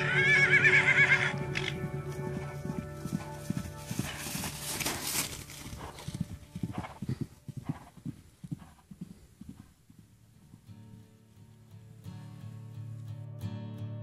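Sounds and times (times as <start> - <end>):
horse hoofbeats on grass: 0.0 - 12.3.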